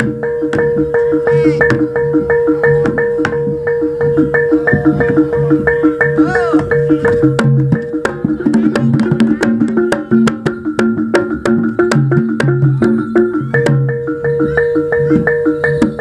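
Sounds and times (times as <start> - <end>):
gamelan metal percussion melody: 0.0 - 16.0.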